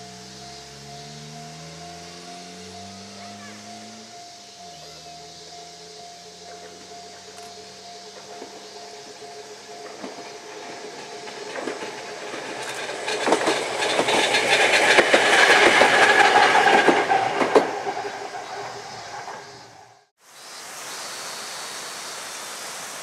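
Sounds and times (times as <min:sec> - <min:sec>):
electric train passing: 0:00.0 - 0:20.1
wheels clicking over rail joints: 0:00.0 - 0:20.1.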